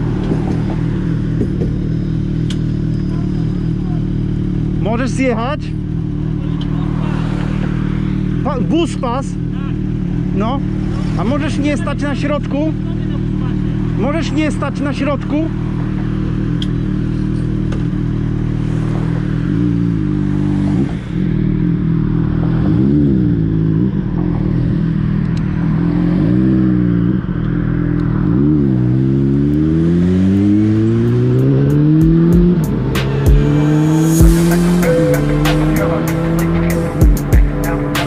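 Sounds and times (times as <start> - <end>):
motorcycle accelerating: 0.0 - 38.0
motorcycle engine idling and revving: 0.0 - 38.0.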